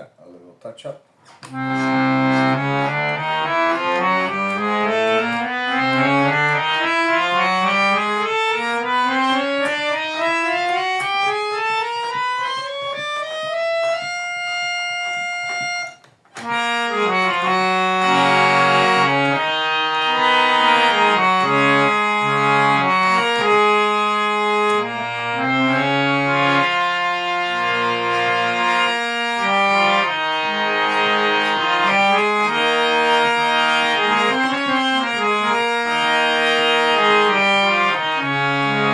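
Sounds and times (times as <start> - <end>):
harmonium playing: 1.3 - 38.9.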